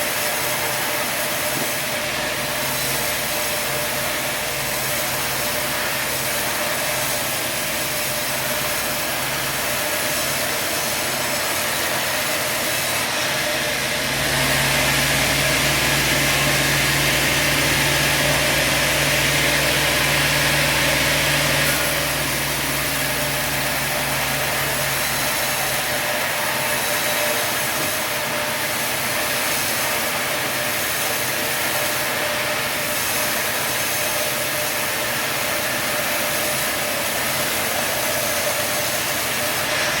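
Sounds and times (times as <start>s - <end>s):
hiss: 0.0s - 40.0s
sawmill drone: 0.0s - 40.0s.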